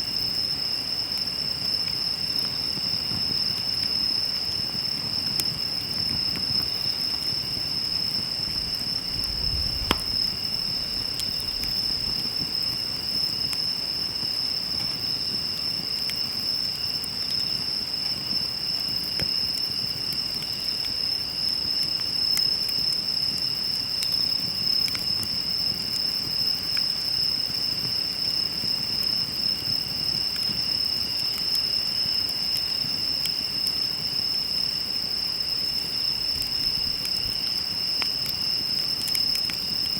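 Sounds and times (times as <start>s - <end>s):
insects chorus: 0.0s - 39.9s
wood fire crackling and popping: 1.7s - 39.9s.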